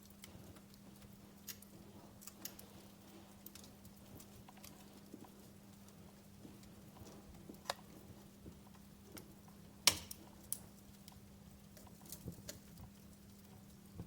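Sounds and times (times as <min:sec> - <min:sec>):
fire pops and snaps: 0:00.0 - 0:14.0.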